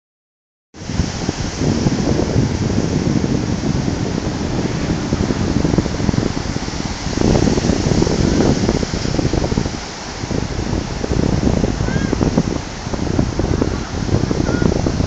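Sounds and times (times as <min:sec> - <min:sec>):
wind buffeting microphone: 0:00.8 - 0:15.0.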